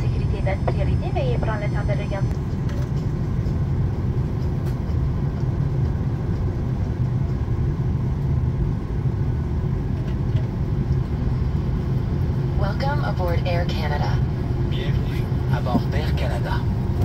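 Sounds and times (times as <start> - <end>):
airliner cabin low rumble: 0.0 - 17.0.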